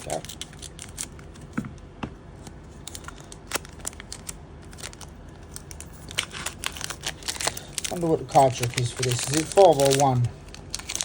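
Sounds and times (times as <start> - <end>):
foil wrapper crinkling and tearing: 0.0 - 1.4, 2.8 - 11.0.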